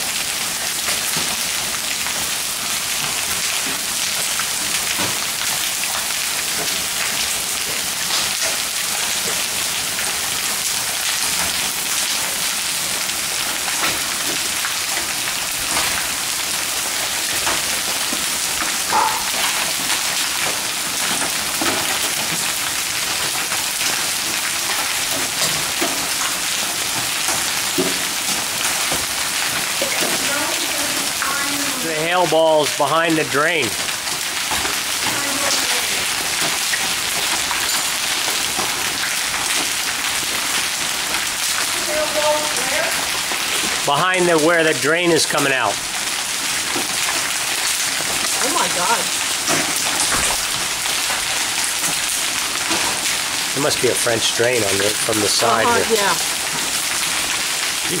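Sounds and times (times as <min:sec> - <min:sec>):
hail pelting down: 0:00.0 - 0:58.0.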